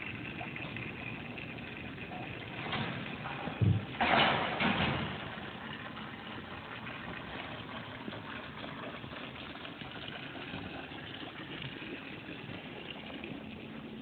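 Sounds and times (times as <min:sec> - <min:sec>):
water pouring into pool: 0:00.0 - 0:14.0.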